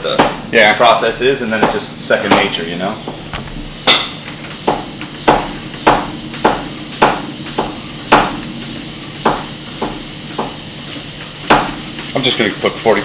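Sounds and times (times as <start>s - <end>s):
bicycle pump strokes: 0.0s - 13.0s.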